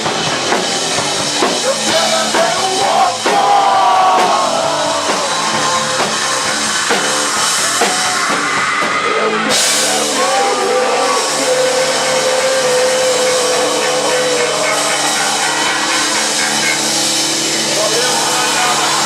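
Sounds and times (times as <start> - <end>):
drum kit: 0.0 - 19.0.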